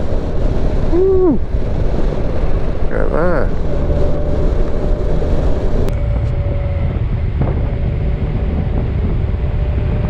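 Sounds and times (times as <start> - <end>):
motorcycle engine running: 0.0 - 10.0
wind rush on microphone: 0.0 - 10.0.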